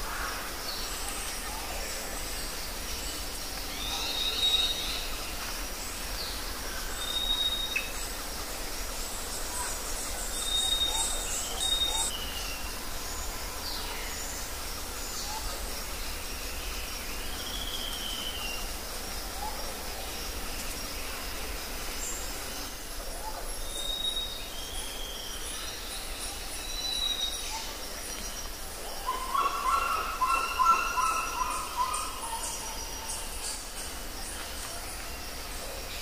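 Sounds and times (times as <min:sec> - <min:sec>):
background hiss: 0:00.0 - 0:36.0.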